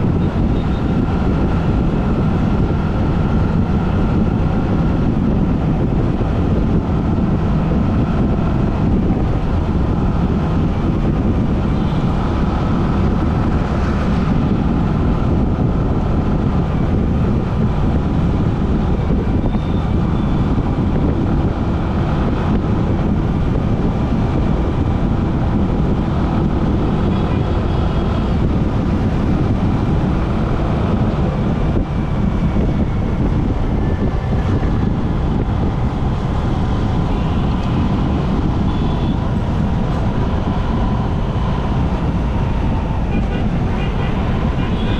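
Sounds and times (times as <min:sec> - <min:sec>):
metro train rumbling: 0:00.0 - 0:44.9.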